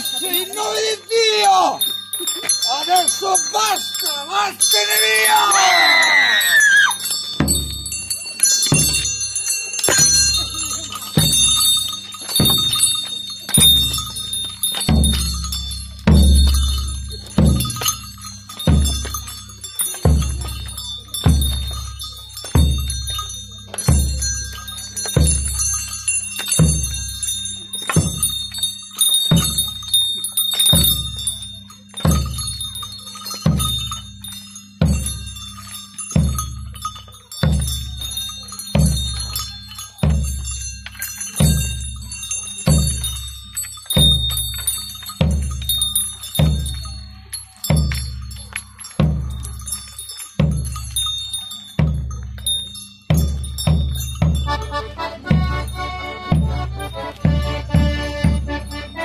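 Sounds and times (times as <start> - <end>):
bells jingling: 0.0 - 59.0
hand drum beating slowly: 6.8 - 59.0.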